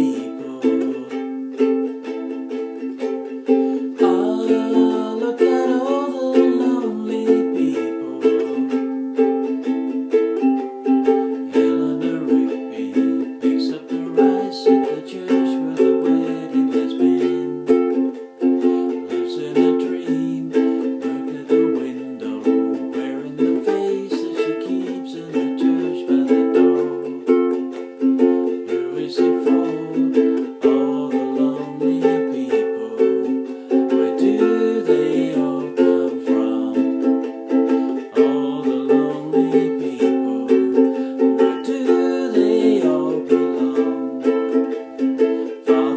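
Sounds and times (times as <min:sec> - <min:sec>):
ukulele strumming chords: 0:00.0 - 0:45.9.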